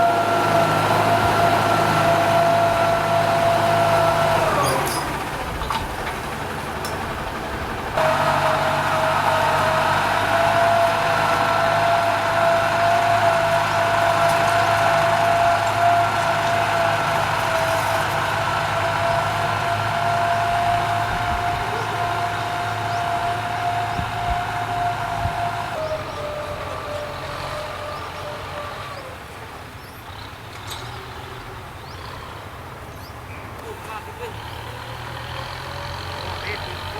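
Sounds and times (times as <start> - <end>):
engine whine: 0.0 - 36.9
tractor diesel engine running: 0.0 - 36.9.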